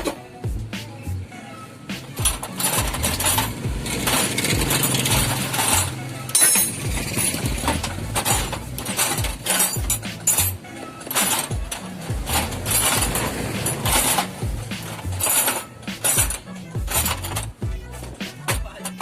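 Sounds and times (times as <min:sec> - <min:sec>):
voices or music underneath: 0:00.0 - 0:19.0
metal tools clinking: 0:02.2 - 0:19.0.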